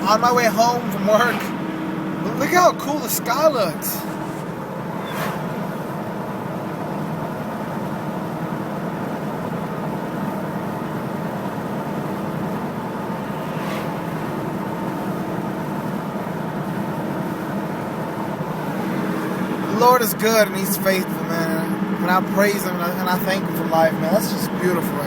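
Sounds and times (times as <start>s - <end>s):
car cabin road and engine noise: 0.0s - 25.0s.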